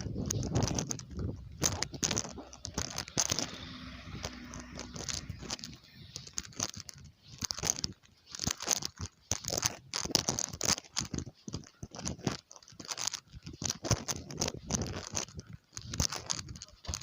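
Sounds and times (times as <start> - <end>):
footsteps crunching through snow: 0.0 - 17.0.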